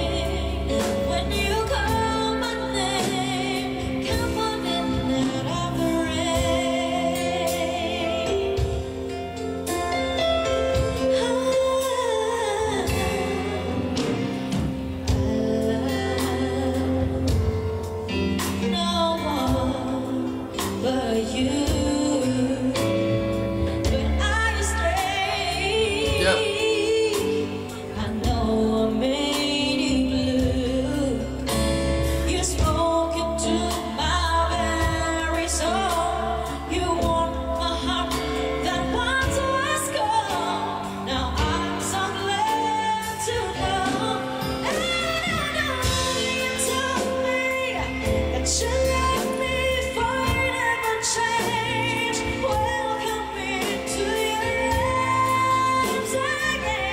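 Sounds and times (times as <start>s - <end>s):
band accompaniment: 0.0s - 56.9s
woman singing ballad: 0.0s - 56.9s.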